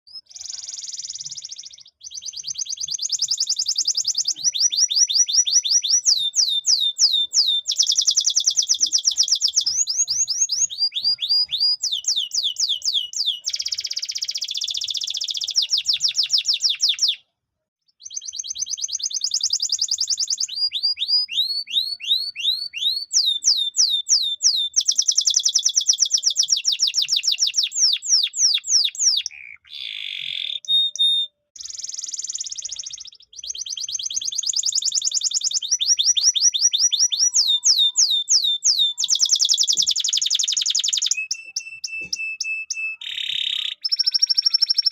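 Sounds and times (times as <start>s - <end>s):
canary singing trills: 0.0s - 17.3s, 17.9s - 44.9s.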